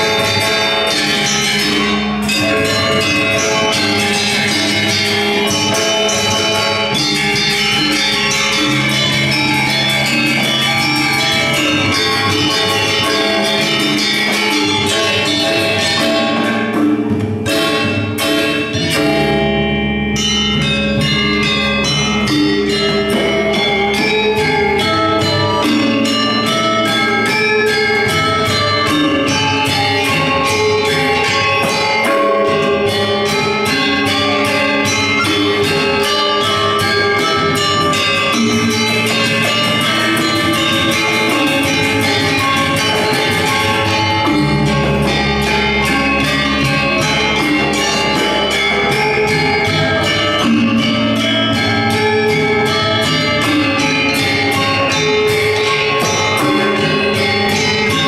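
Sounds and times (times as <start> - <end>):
metallophone strokes: 0.0 - 58.0.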